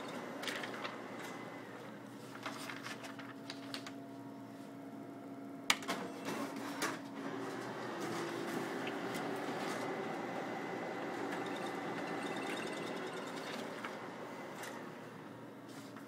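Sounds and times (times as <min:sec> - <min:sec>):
photocopier humming: 0:00.0 - 0:16.0.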